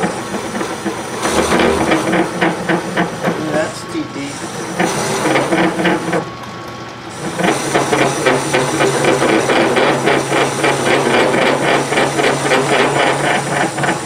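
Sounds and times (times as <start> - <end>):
lathe motor hum: 0.0 - 14.0
lathe tool bit chattering: 0.0 - 14.0.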